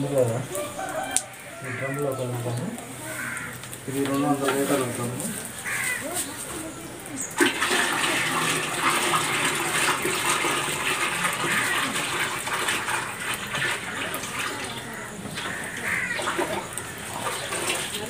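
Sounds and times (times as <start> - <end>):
juice pouring and splashing: 0.0 - 6.6, 7.2 - 18.0.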